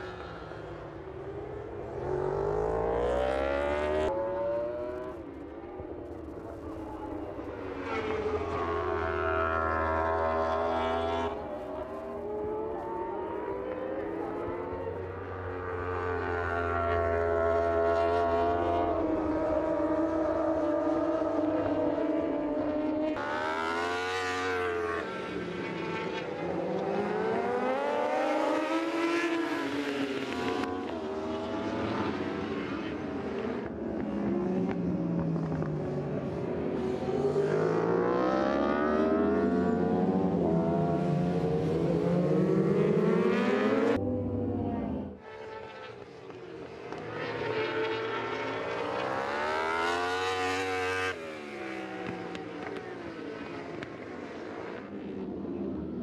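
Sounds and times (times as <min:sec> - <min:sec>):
racing motorbike engines revving: 0:00.0 - 0:56.0.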